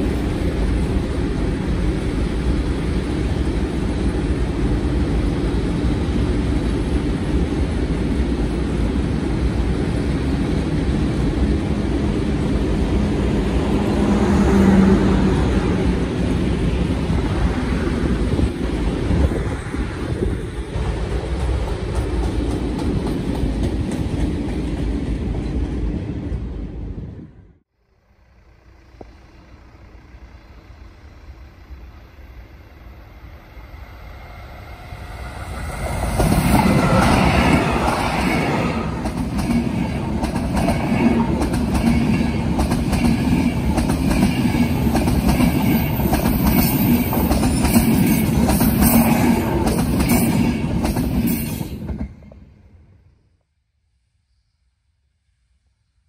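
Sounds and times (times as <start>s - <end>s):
freight train rumbling past: 0.0s - 27.7s, 28.3s - 53.3s
passenger train passing: 0.0s - 53.4s.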